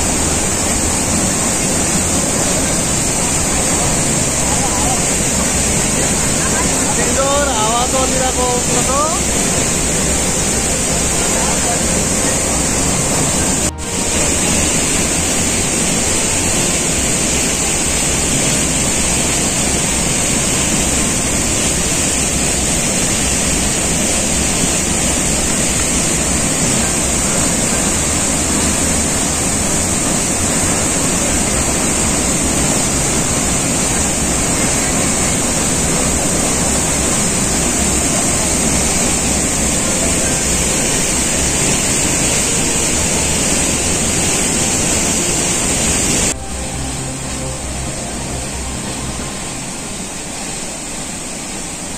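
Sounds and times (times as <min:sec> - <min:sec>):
waterfall torrent rushing: 0:00.0 - 0:51.9.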